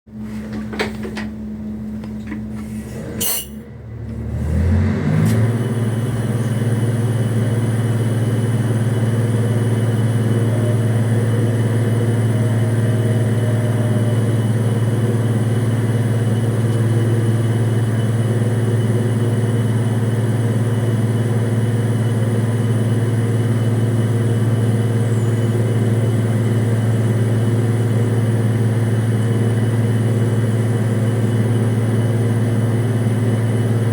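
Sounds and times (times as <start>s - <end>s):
crane engine whine and drone: 0.1s - 33.9s.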